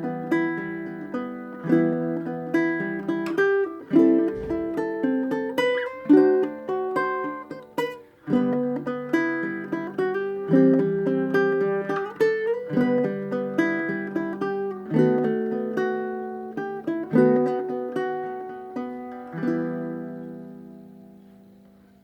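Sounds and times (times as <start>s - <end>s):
ukulele plucking a melody: 0.0s - 22.0s.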